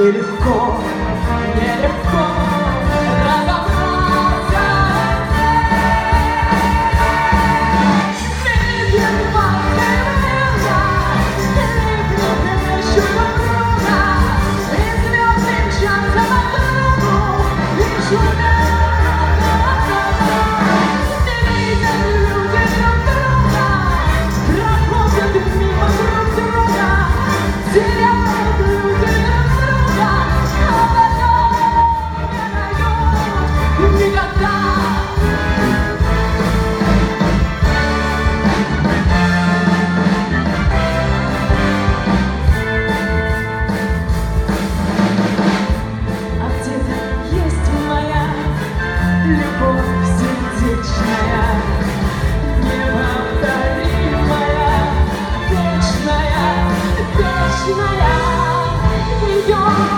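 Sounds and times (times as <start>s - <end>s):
singing melody: 0.0s - 44.2s, 45.7s - 59.9s
band playing live: 0.0s - 59.9s.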